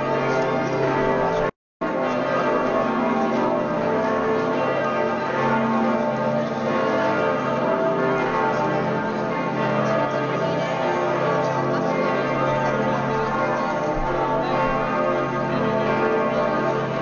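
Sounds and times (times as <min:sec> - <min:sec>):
church bells ringing in a full peal: 0:00.0 - 0:17.0.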